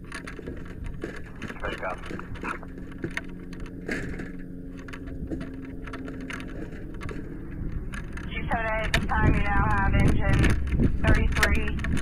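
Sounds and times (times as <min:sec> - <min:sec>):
fire engine humming: 0:00.0 - 0:12.0.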